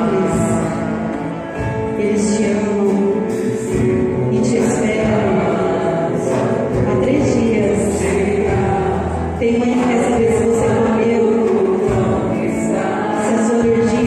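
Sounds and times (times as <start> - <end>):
music with singing voice: 0.0 - 14.0.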